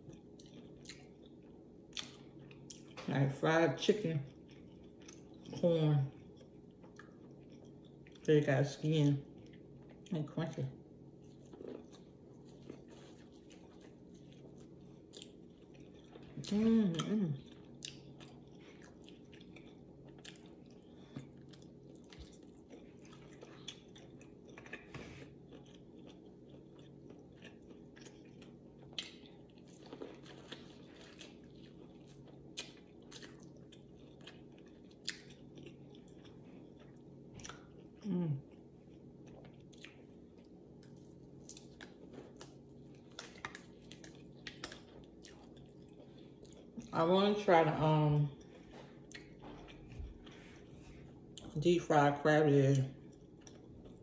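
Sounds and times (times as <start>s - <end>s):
crunchy chewing and biting: 0.0s - 3.0s, 4.2s - 8.3s, 11.2s - 46.9s, 48.3s - 51.6s, 52.9s - 54.0s
faint steady hum: 0.0s - 54.0s.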